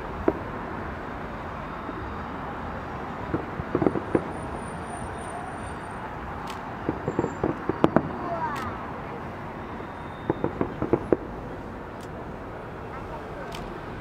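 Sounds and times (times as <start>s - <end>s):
city traffic rumble: 0.0s - 14.0s
distant fireworks bangs: 0.0s - 14.0s.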